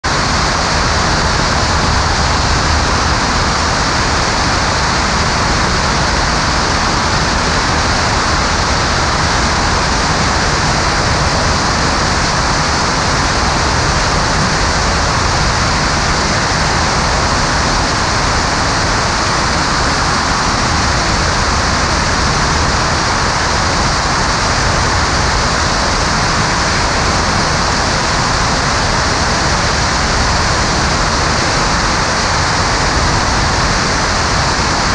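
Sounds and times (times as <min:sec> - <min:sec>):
aircraft engine and propeller: 0:00.0 - 0:34.9
wind rushing over camera: 0:00.1 - 0:34.9.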